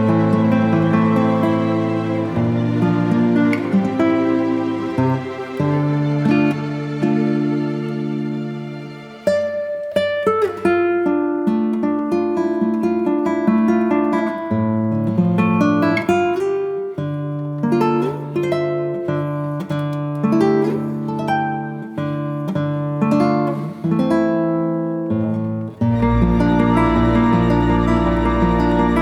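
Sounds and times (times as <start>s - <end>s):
acoustic guitar melody: 0.0s - 29.0s.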